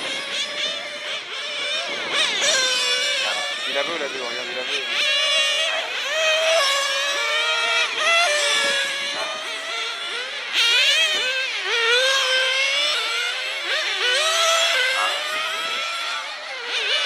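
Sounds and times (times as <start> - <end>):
model car engines whining: 0.0 - 17.0
sharp rising engine rev: 0.0 - 17.0.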